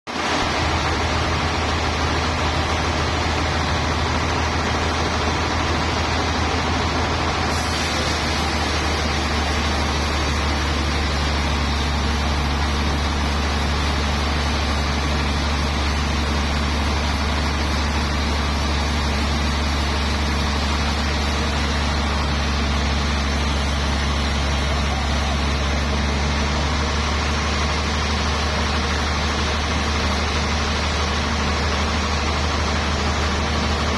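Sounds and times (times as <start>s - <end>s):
sawmill machinery droning: 0.1s - 33.9s.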